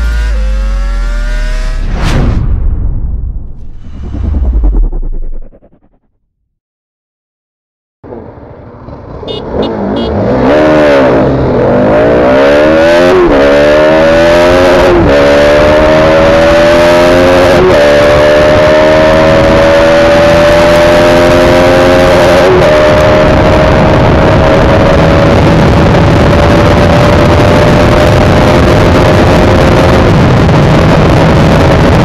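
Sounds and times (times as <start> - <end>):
motorcycle engine accelerating: 0.0 - 2.0, 3.9 - 6.4, 8.5 - 32.0.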